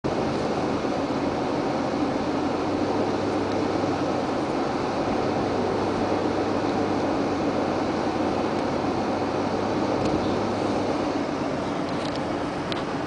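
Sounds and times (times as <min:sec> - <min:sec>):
vehicle engine and tyre noise: 0:00.0 - 0:13.0.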